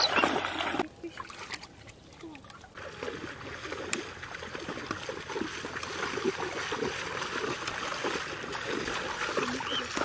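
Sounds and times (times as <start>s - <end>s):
people wading splashes: 0.0s - 10.0s
shallow water lapping: 0.0s - 10.0s.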